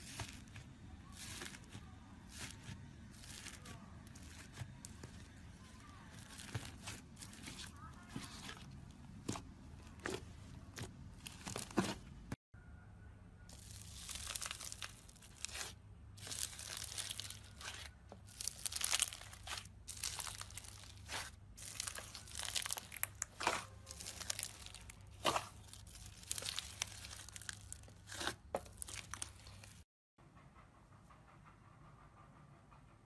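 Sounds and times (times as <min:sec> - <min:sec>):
slime squishing and crackling: 0:00.0 - 0:10.2, 0:13.5 - 0:29.8.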